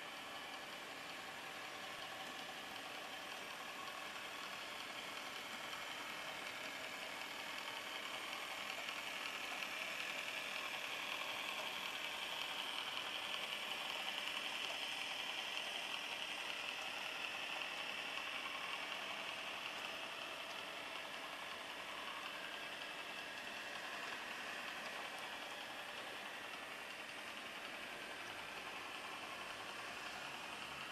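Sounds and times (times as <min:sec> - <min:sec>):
model train rolling on metal track: 0:00.1 - 0:30.9.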